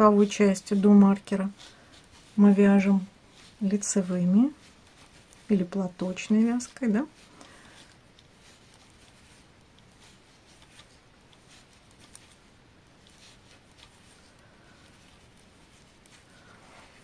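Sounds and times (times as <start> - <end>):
low room hiss: 0.0 - 17.0.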